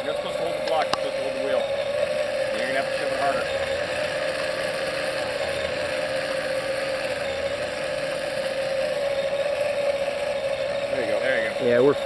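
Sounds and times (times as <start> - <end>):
motor whining: 0.0 - 12.0.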